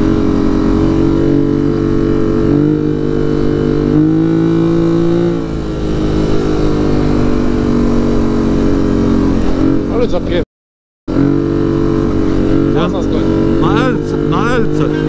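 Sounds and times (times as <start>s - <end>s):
atv engine running at low revs: 0.0s - 10.4s, 11.1s - 15.0s.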